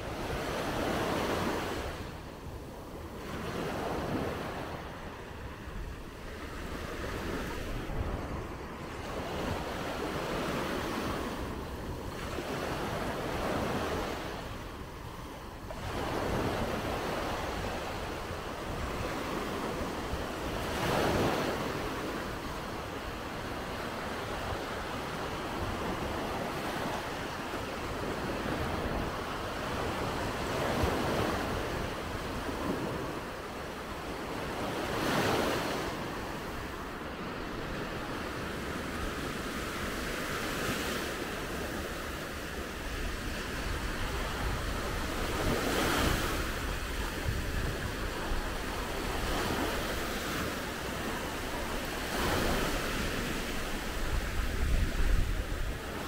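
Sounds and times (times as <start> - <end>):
sea waves breaking on beach: 0.0 - 56.0
wind on microphone: 0.0 - 56.0.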